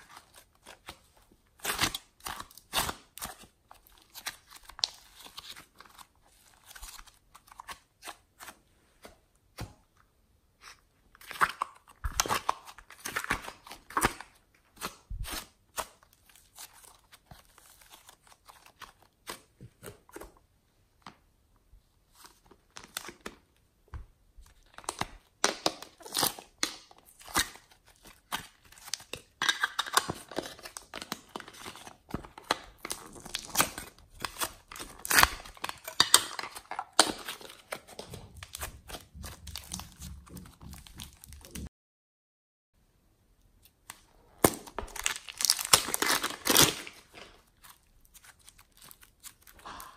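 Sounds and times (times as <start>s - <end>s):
slime squelching and tearing: 0.0s - 8.6s, 10.6s - 20.0s, 24.6s - 41.7s, 43.6s - 49.9s.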